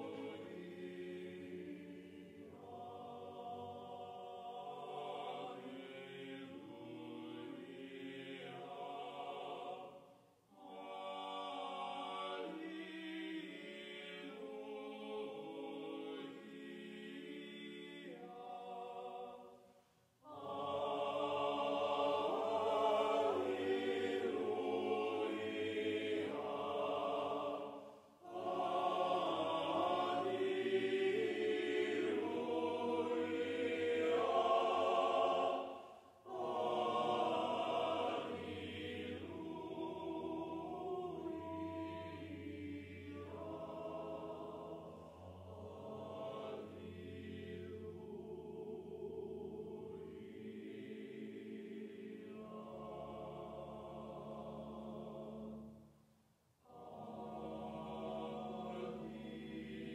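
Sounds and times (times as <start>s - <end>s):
choir singing unaccompanied: 0.0s - 55.9s, 56.6s - 59.9s.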